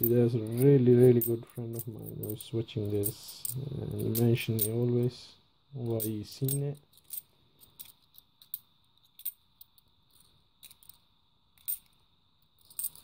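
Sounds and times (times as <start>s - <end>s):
coins clinking in a hand: 0.0s - 4.9s, 5.9s - 11.0s, 11.6s - 13.0s.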